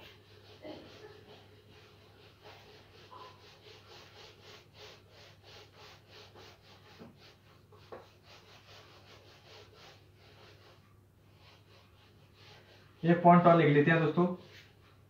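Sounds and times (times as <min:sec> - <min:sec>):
eraser rubbing on whiteboard: 0:00.0 - 0:15.0.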